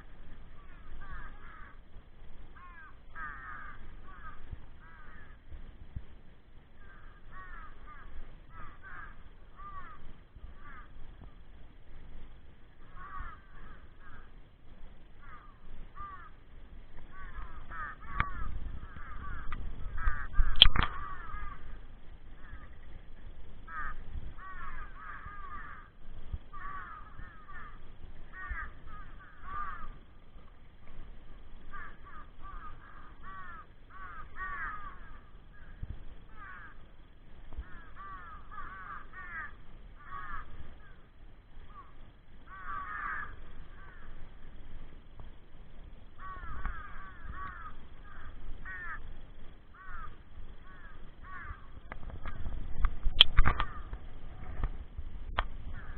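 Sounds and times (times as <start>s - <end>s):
crows cawing: 0.0s - 5.6s, 6.7s - 11.4s, 12.7s - 23.0s, 23.6s - 44.6s, 46.1s - 52.5s, 53.4s - 54.1s, 55.6s - 55.9s.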